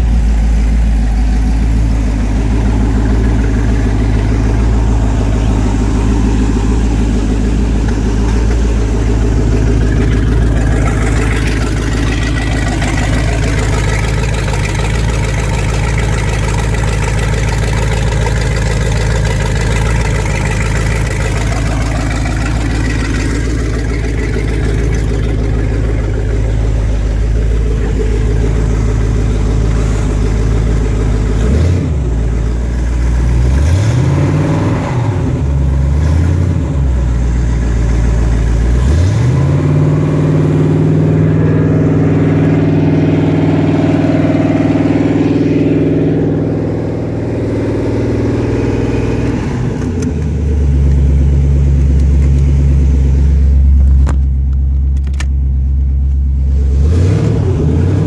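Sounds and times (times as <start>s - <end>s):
boat engine revving: 0.0s - 54.1s, 56.3s - 58.0s.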